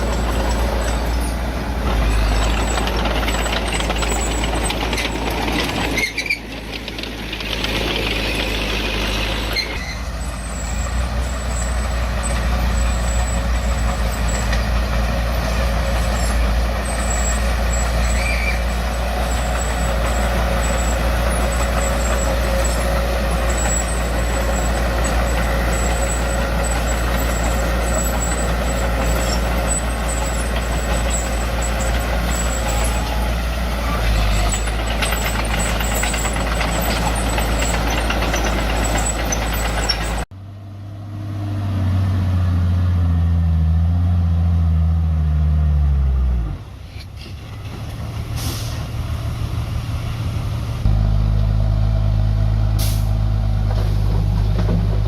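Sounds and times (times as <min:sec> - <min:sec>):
heavy diesel engine running: 0:00.0 - 0:42.4, 0:46.6 - 0:55.0
deeper engine drone: 0:00.0 - 0:47.3, 0:47.9 - 0:55.0.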